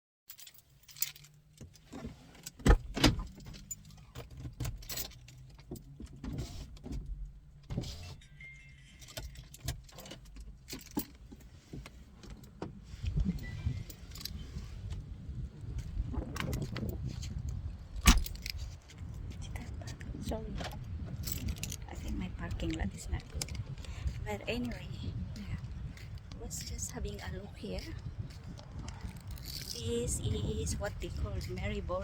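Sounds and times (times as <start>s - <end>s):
handling clicks and rattles: 0.3s - 32.0s.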